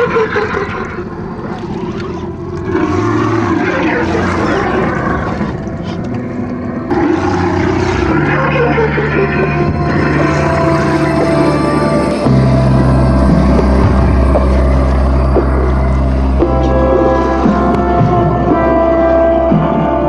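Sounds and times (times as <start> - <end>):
low music tones: 0.0 - 20.0.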